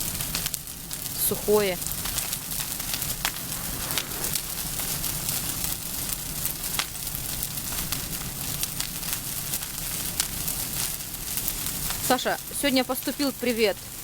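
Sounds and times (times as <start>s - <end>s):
bonfire crackling and hissing: 0.0s - 14.0s.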